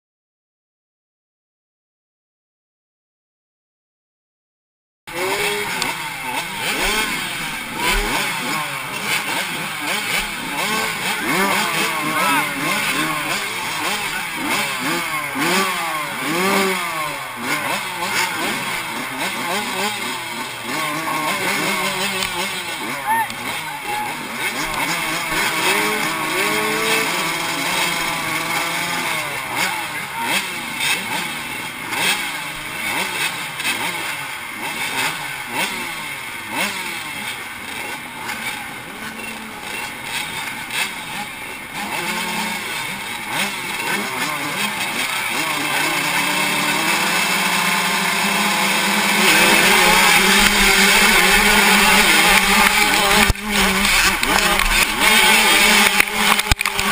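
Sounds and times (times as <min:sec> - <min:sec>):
motocross bikes revving: 0:05.1 - 0:56.9.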